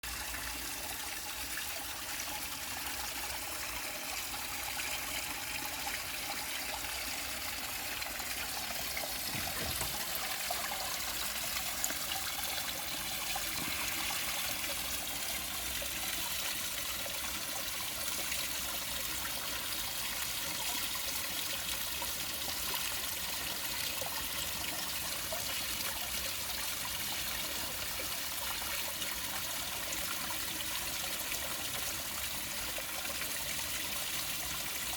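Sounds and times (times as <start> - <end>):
small waterfall splashing into pond: 0.0 - 34.9.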